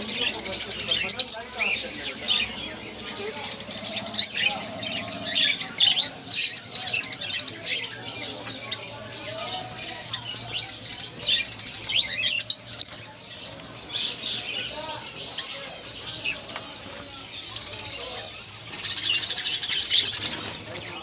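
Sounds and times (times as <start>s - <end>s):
small birds chattering and chirping: 0.0s - 21.0s.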